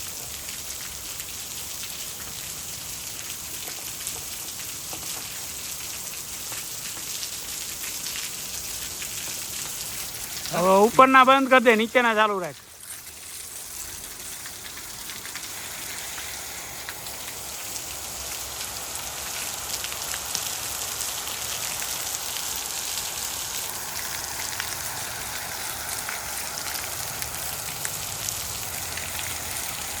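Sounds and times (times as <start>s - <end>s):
water splattering onto hard surface: 0.0s - 30.0s.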